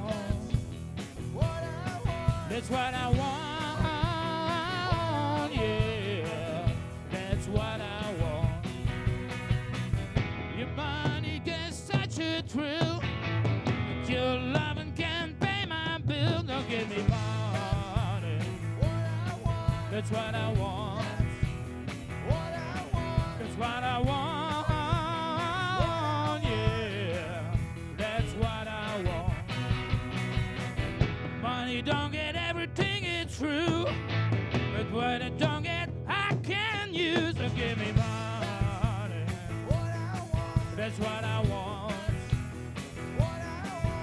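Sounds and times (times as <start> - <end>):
person singing lead vocal: 0.0 - 8.8, 10.5 - 13.1, 14.0 - 30.1, 31.4 - 34.0, 34.7 - 42.5, 43.1 - 44.0
bass guitar: 0.0 - 44.0
drums: 0.0 - 44.0
electric guitars: 0.0 - 44.0.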